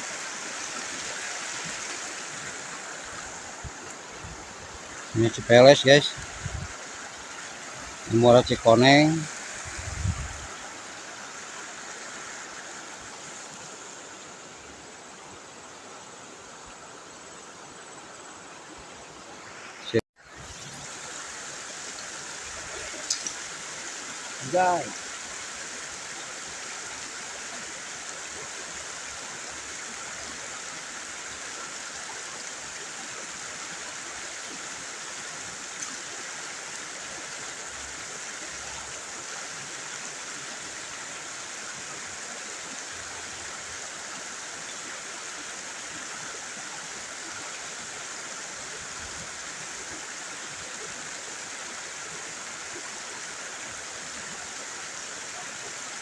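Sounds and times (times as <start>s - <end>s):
river water rushing: 0.0s - 16.6s, 19.1s - 56.0s.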